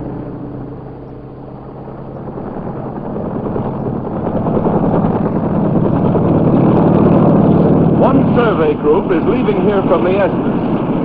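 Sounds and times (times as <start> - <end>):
helicopter engine and rotor: 0.0 - 11.0.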